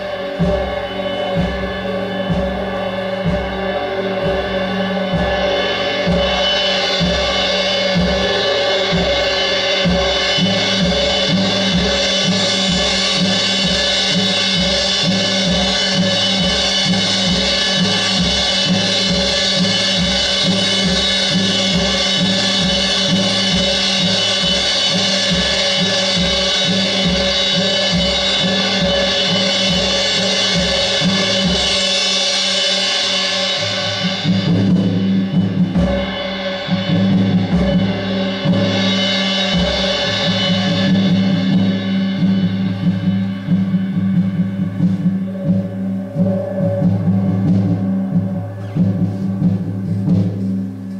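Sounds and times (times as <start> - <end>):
ringing cymbals: 0.0 - 50.9.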